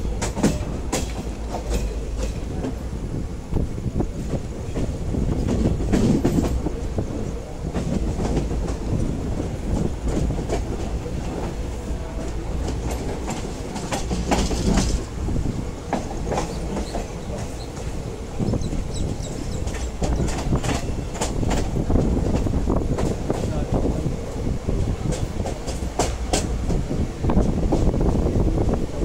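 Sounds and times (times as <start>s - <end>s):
train wheels clattering over rail joints: 0.0s - 2.9s, 4.0s - 28.1s
rumble of rolling train coach: 0.0s - 29.0s.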